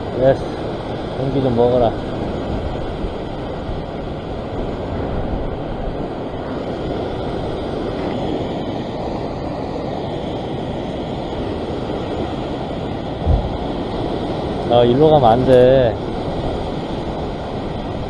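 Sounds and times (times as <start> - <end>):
ocean surf washing over rocks: 0.0 - 18.0
wind on microphone: 0.0 - 18.0.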